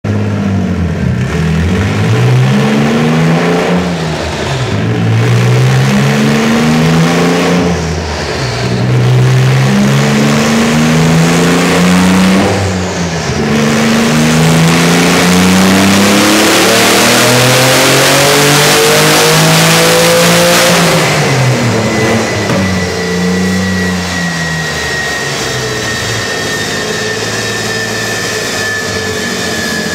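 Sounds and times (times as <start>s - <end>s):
car engine revving: 0.1s - 29.9s
thin whine: 2.5s - 29.9s.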